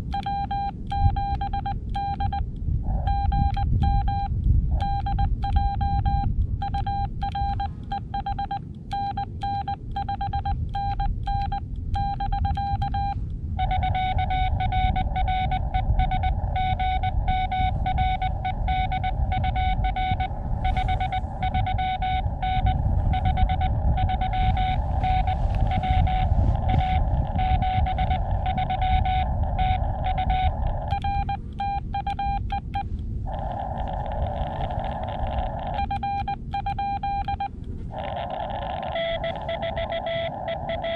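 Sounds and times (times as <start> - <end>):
morse code tones: 0.0 - 40.9
steady low rumble: 0.0 - 40.9
receiver hiss: 7.0 - 40.9.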